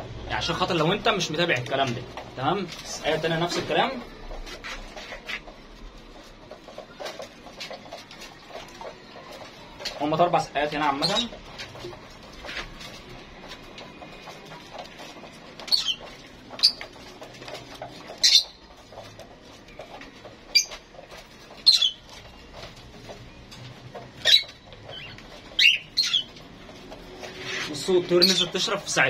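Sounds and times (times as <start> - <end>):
small birds chirping: 0.4 - 29.0.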